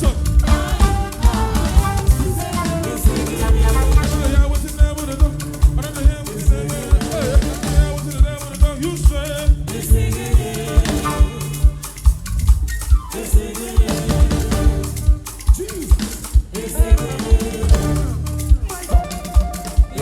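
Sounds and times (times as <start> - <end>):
gospel band music: 0.0 - 20.0
voices singing: 0.0 - 20.0.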